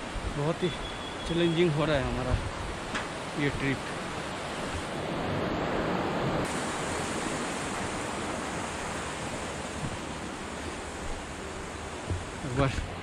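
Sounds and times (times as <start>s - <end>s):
river rushing over rocks: 1.4s - 13.0s.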